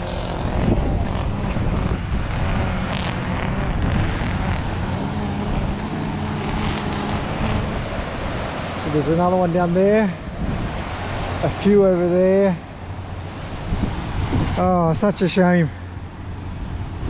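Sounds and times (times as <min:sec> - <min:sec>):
ocean surf washing on rocks: 0:00.0 - 0:17.0
wind buffeting microphone: 0:00.0 - 0:17.0.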